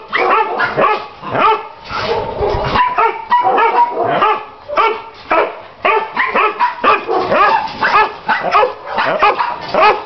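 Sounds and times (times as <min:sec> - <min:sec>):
dogs barking and yipping: 0:00.0 - 0:10.0.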